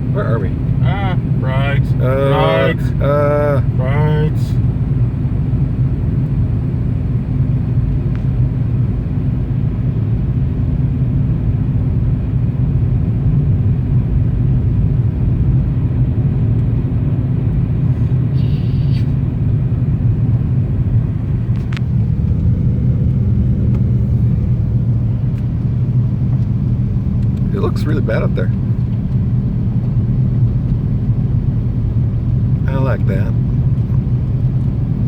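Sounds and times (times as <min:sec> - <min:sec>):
car driving rumble inside cabin: 0:00.0 - 0:35.0.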